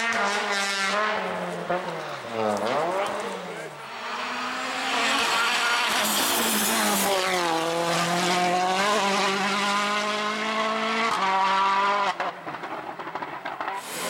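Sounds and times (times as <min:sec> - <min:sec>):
rally car engine running hard: 0:00.0 - 0:12.2.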